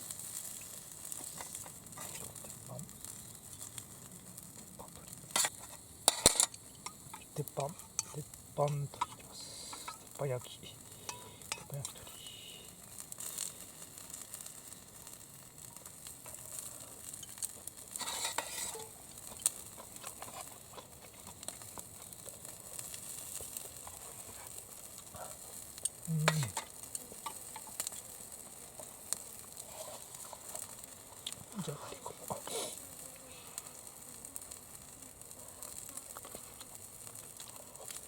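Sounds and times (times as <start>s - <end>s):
chicken sizzling on a griddle: 0.0s - 38.0s.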